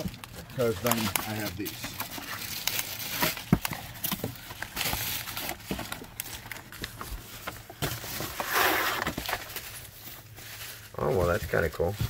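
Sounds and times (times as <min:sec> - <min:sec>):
paper and packaging rustling: 0:00.0 - 0:12.0.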